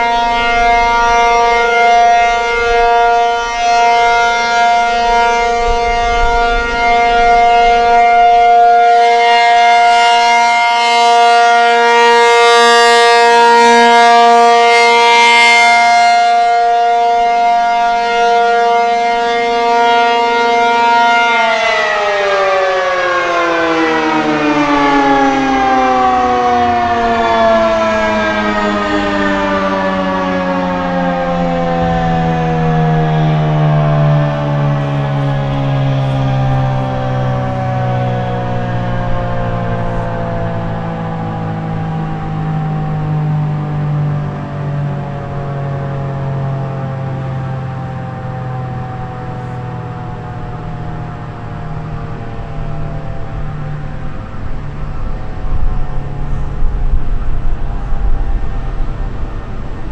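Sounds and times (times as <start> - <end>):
siren alert tone winding down: 0.0 - 59.9.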